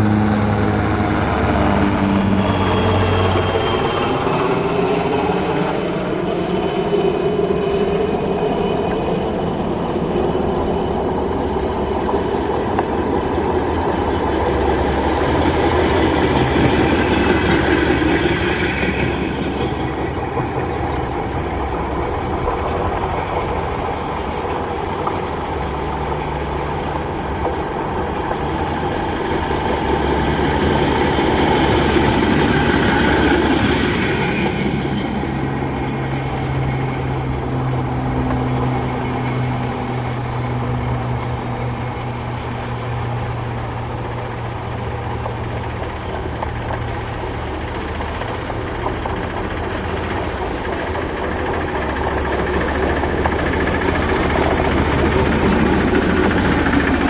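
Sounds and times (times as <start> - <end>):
rail trolleys rumbling on track: 0.0 - 57.0.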